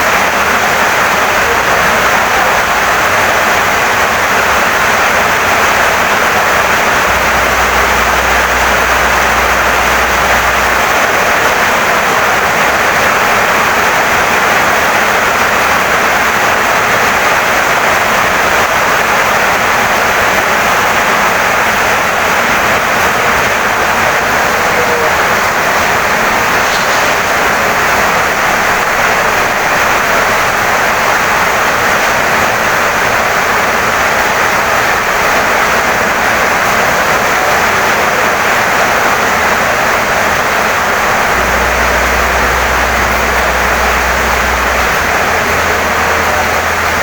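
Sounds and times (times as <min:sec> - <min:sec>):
heavy rain on wooden house: 0:00.0 - 0:47.0.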